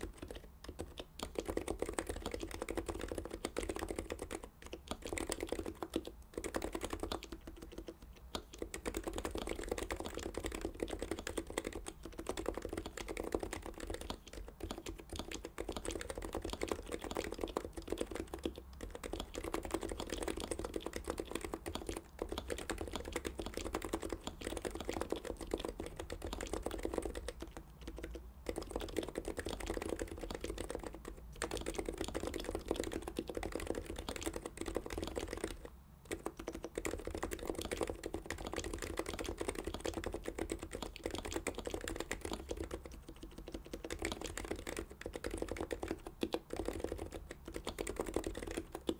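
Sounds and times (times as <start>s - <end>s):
low-pitched keyboard typing: 0.0s - 48.9s.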